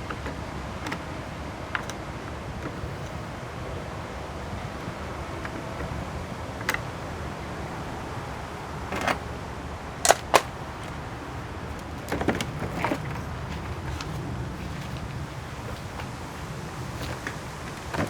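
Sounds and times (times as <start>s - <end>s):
steady low rumble: 2.4s - 18.0s.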